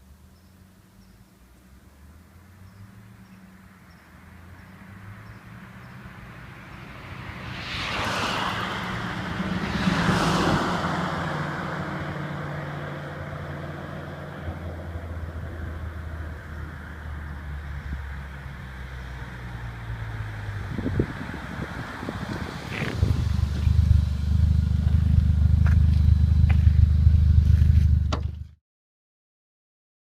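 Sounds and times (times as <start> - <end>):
car driving by: 4.2 - 28.5.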